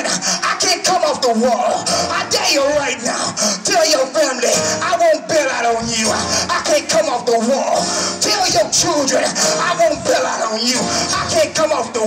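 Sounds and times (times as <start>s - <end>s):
man singing into microphone: 0.0s - 12.0s.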